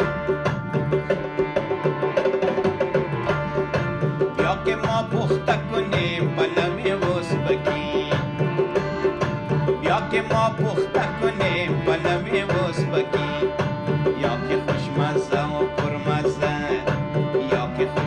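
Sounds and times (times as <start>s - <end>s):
song with percussion beat: 0.0s - 18.0s.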